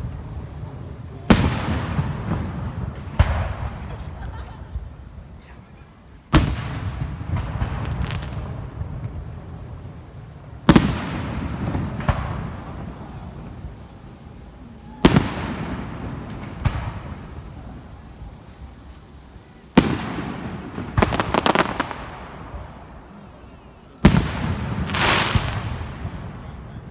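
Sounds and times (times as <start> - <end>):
rolling rumble: 0.0 - 5.4, 6.4 - 26.9.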